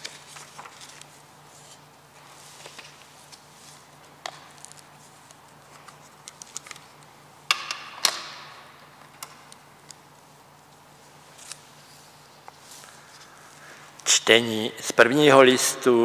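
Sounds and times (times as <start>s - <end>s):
book handling clicks and rustles: 0.0s - 14.0s.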